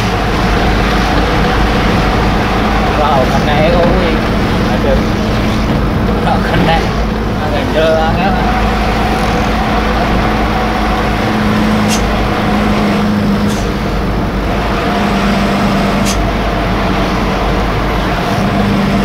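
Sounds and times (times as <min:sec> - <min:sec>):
truck engine droning: 0:00.0 - 0:19.0.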